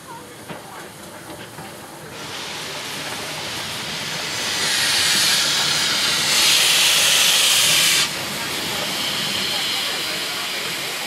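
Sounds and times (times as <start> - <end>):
steam locomotive hissing: 0.2 - 11.0.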